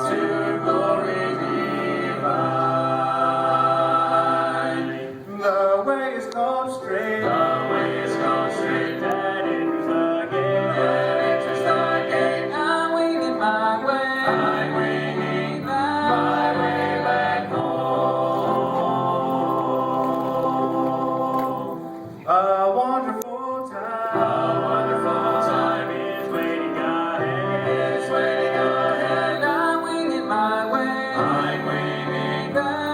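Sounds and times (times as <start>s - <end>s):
vocal group singing in harmony: 0.0s - 32.9s.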